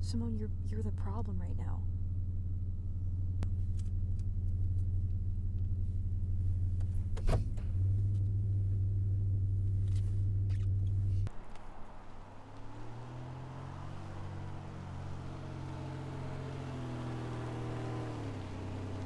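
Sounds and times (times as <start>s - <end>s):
car cabin rumble: 0.0s - 19.0s.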